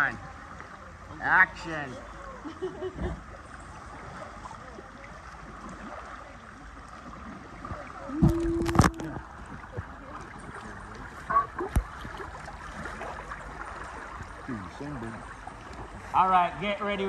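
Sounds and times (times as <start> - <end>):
river water flowing and gurgling: 0.0 - 17.0.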